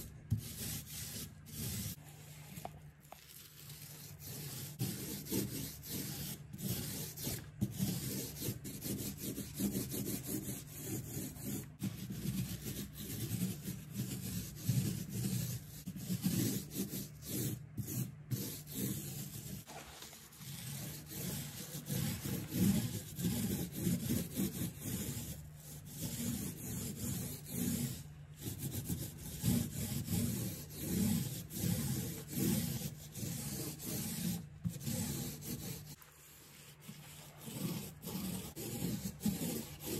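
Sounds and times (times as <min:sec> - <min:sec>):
paint roller rubbing: 0:00.0 - 0:17.3, 0:18.3 - 0:39.9.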